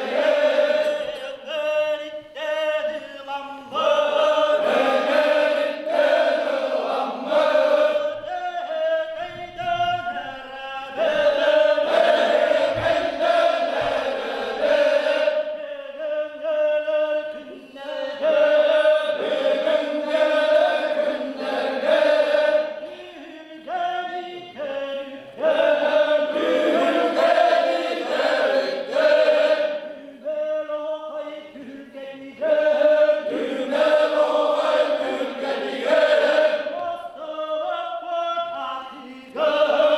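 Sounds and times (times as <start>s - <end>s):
men singing in unison chorus: 0.0s - 39.9s.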